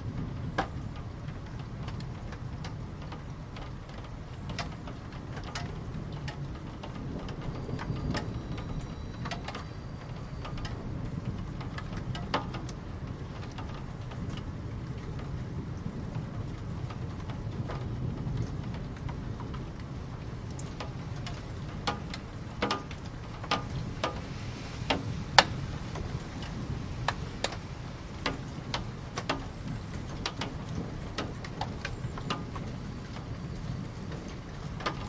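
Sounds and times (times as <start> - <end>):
steady rain: 0.0 - 35.0.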